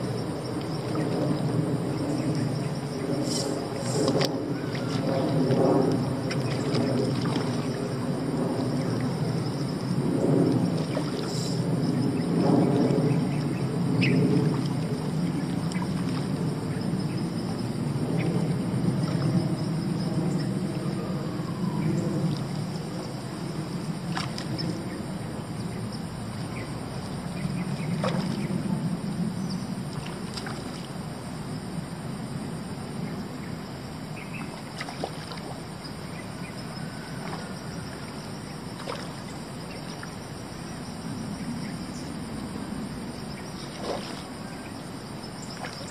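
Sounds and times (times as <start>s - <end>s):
insect chorus: 0.0s - 45.9s.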